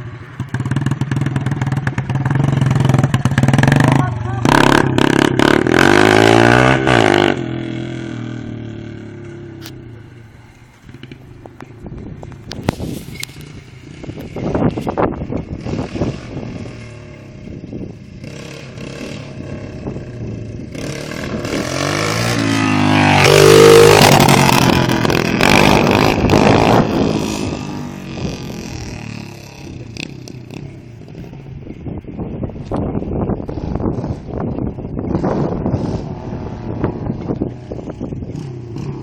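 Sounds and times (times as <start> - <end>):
dirt bike engine passing: 0.0 - 39.0.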